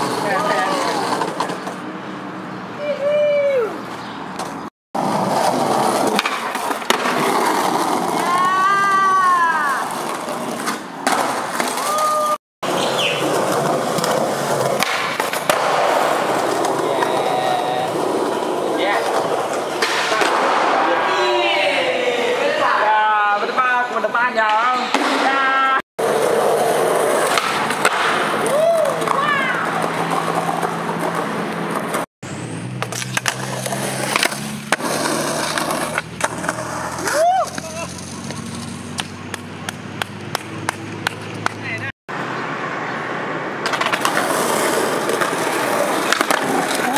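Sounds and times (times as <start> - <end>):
skateboard clack: 0.0 - 1.8, 4.4 - 22.0, 24.4 - 32.0, 32.8 - 41.8, 43.6 - 46.9
skateboard wheels on concrete: 0.0 - 46.9.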